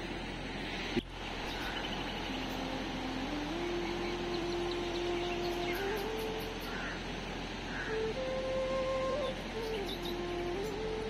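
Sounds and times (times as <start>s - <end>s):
river rushing: 0.0s - 11.0s
slow background melody: 1.0s - 11.0s.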